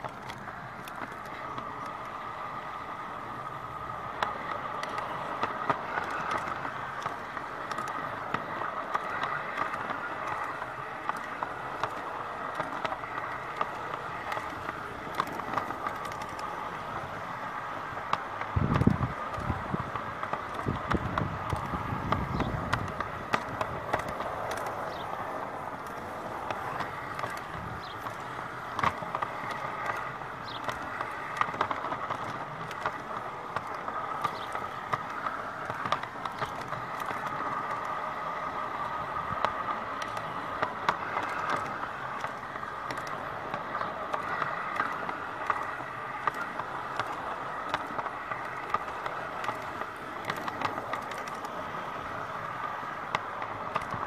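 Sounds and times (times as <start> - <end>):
model train whirring hum: 0.0 - 54.0
wheels clicking on rails: 0.0 - 54.0.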